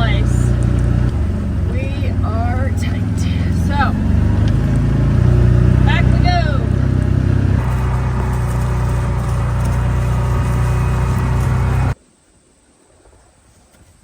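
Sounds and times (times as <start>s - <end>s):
vehicle engine running: 0.0s - 12.0s
faint wind: 0.0s - 14.0s.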